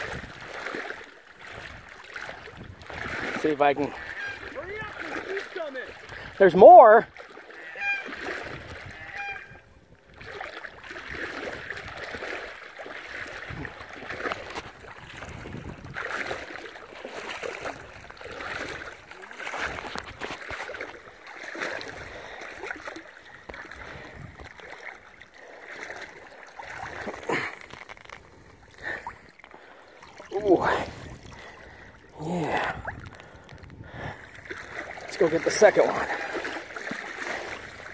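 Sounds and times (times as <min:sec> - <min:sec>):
lake water sloshing and splashing: 0:00.0 - 0:37.9.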